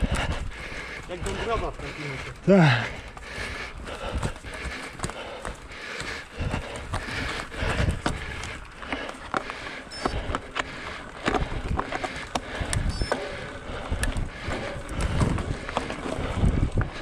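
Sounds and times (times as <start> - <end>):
wind buffeting microphone: 0.0 - 5.7, 6.3 - 8.7, 11.2 - 17.0
bike clicks and rattles: 0.0 - 17.0.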